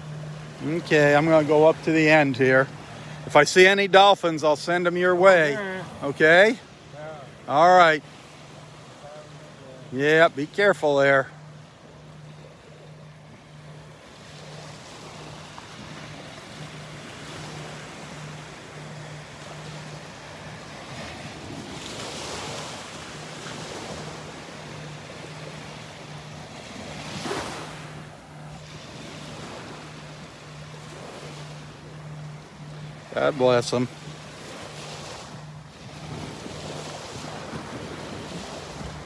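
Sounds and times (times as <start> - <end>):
surf washing on sandy beach: 0.0 - 39.0.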